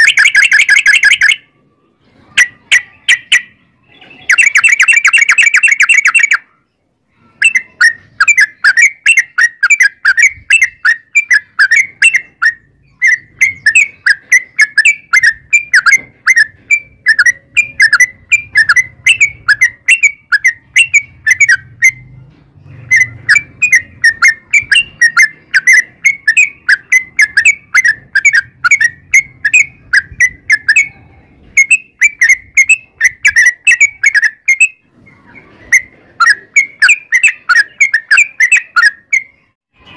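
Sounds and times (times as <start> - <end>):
bird singing quick chirps: 2.3 - 39.5.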